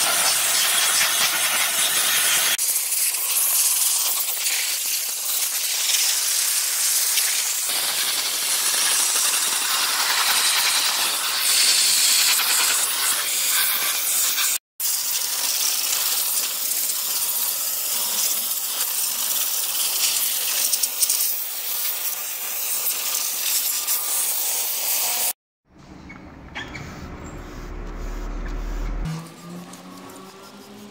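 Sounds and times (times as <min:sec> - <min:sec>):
steam cleaner hissing: 0:00.0 - 0:25.4.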